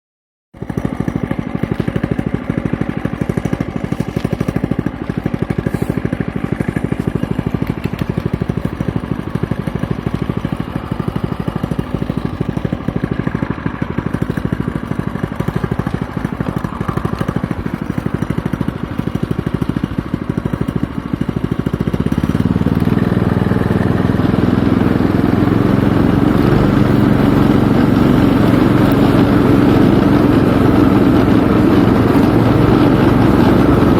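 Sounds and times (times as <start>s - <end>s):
vehicle engine running: 0.6s - 33.9s.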